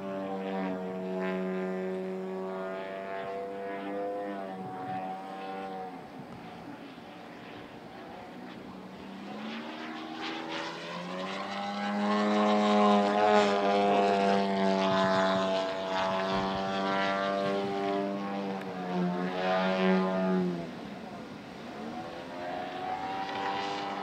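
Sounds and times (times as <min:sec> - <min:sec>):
model airplane engine and propeller: 0:00.0 - 0:24.0.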